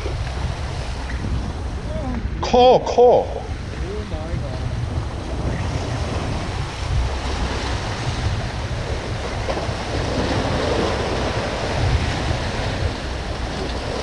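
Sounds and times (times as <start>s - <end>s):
sea waves breaking on rocks: 0.0s - 14.0s
wind buffeting microphone: 0.0s - 14.0s.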